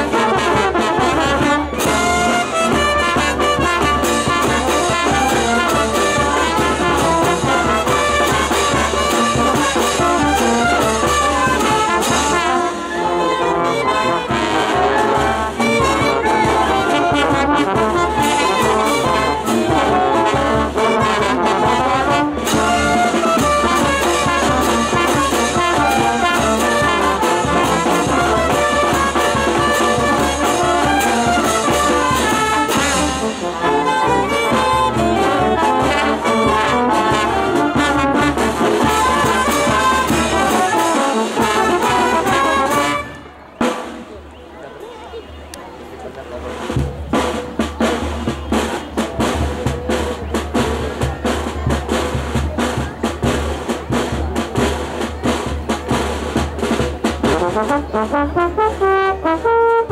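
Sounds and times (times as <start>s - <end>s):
brass band music: 0.0s - 59.9s.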